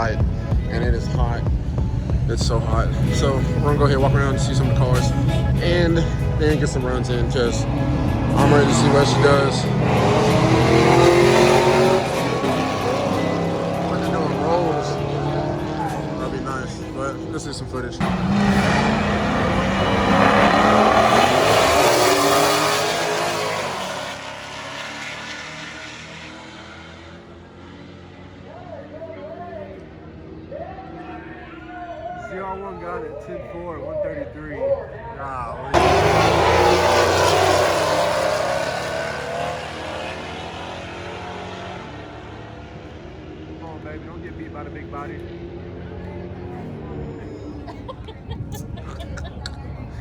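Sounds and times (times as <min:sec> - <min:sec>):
car engine accelerating hard: 0:00.0 - 0:31.0, 0:35.7 - 0:50.0.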